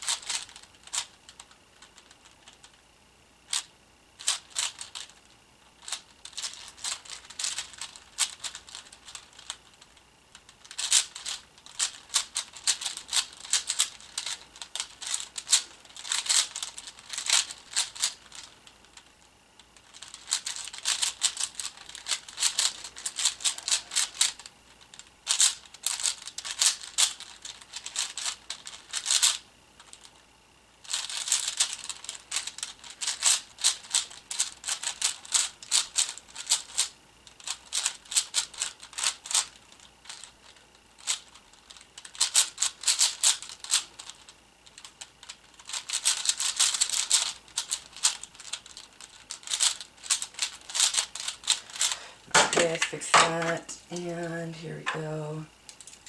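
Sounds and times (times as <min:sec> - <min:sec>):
puzzle cube clicking as turned: 0:00.0 - 0:02.8, 0:03.5 - 0:19.1, 0:19.8 - 0:30.2, 0:30.8 - 0:52.0.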